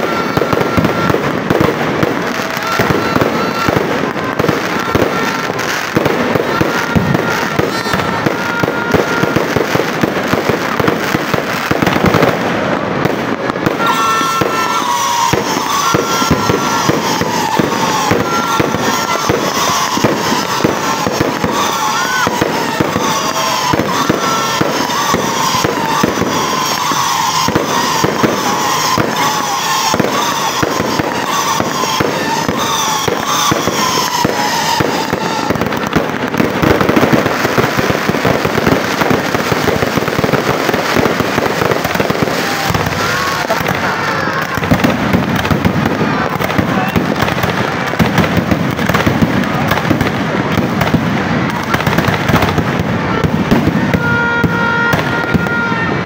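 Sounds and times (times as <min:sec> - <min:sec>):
falling firework whistles: 0:00.0 - 0:56.0
fireworks bangs and crackles: 0:00.0 - 0:56.0.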